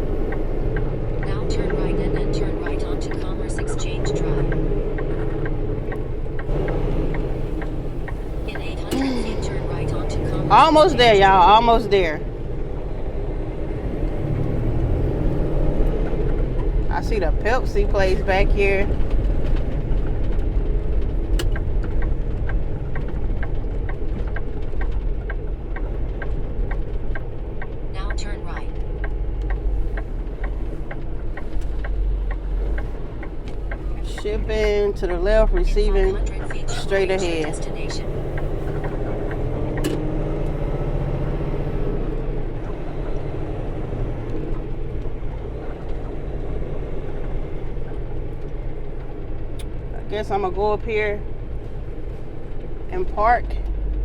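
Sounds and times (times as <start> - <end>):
diesel engine rumbling: 0.0 - 54.0
turn signal ticking: 0.0 - 54.0.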